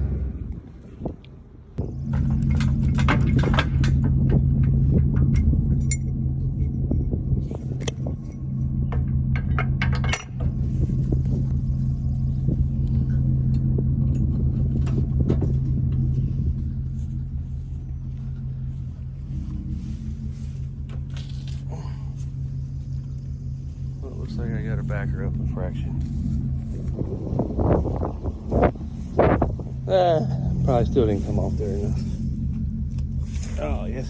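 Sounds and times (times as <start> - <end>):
diesel engine running: 1.4 - 34.0
metallic clanks and rattles: 1.8 - 29.7.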